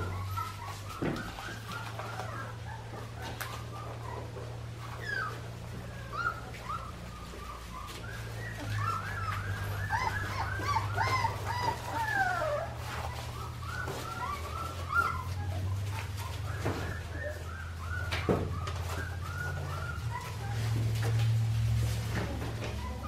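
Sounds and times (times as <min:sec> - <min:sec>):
puppies whining and squeaking: 0:00.0 - 0:23.0.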